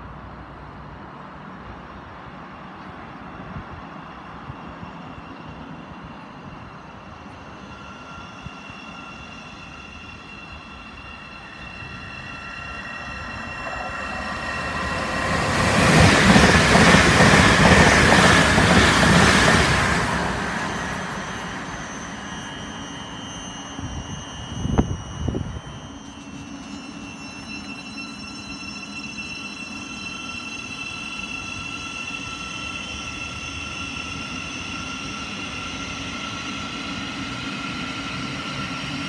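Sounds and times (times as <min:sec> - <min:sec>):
electric train whine: 0:00.0 - 0:39.0
train wheels rushing on rail: 0:01.4 - 0:39.0.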